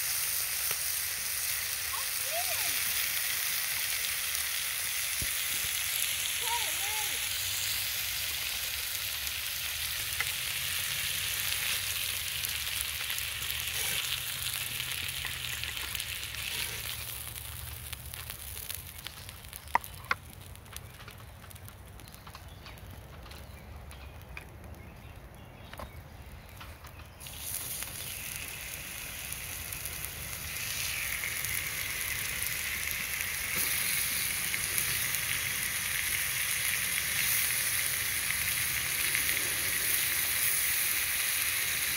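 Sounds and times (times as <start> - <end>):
meat sizzling on hot stone: 0.0 - 24.6, 25.6 - 41.9.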